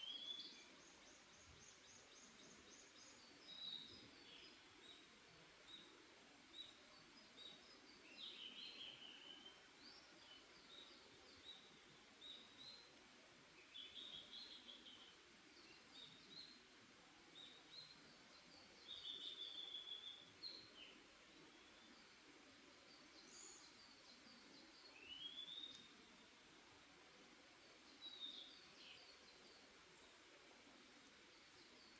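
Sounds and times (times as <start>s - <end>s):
faint songbirds chirping and trilling: 0.0s - 31.9s
soft background hiss: 0.0s - 31.9s.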